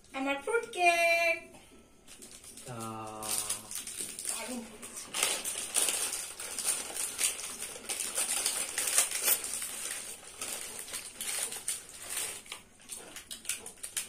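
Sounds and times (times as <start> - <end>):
plastic wrappers crinkling: 2.0 - 14.0.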